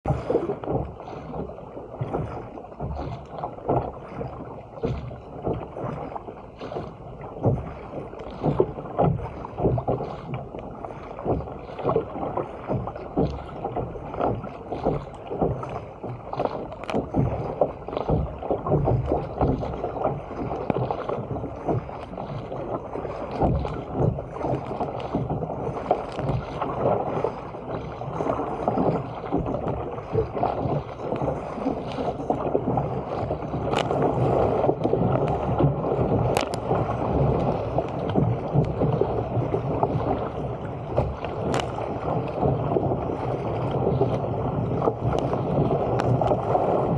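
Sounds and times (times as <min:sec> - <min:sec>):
paddle splashes: 0:00.0 - 0:46.9
water rushing along hull: 0:00.0 - 0:46.9.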